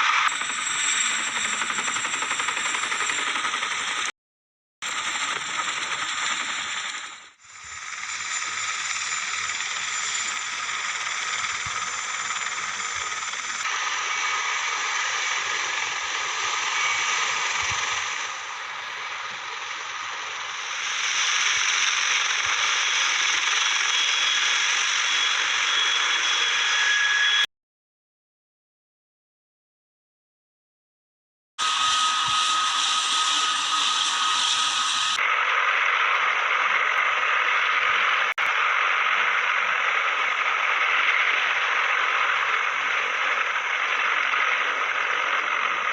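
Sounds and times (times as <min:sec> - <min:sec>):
helicopter turbine engine: 0:00.0 - 0:04.1, 0:04.8 - 0:27.5, 0:31.6 - 0:45.9.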